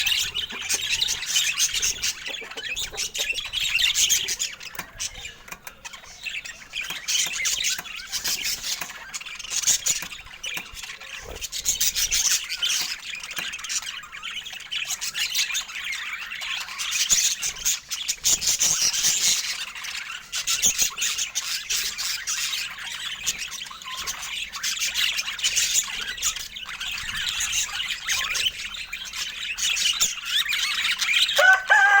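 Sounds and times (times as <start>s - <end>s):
budgerigars chattering: 0.0s - 32.0s.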